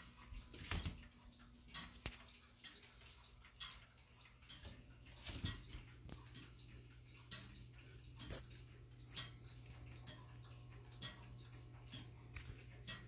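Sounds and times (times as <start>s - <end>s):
pendulum clock ticking: 0.0s - 13.0s.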